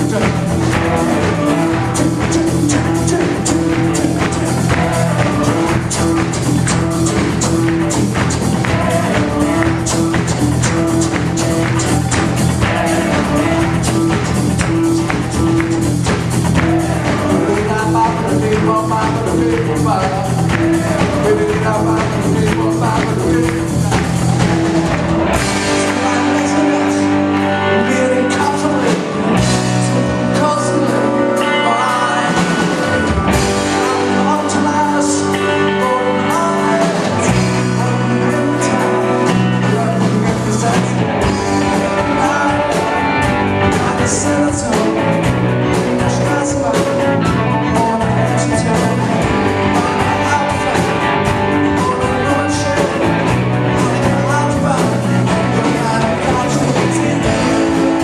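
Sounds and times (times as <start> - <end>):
bass guitar: 0.0 - 58.0
drum kit: 0.0 - 58.0
electric guitar: 0.0 - 58.0
keyboard: 0.0 - 58.0.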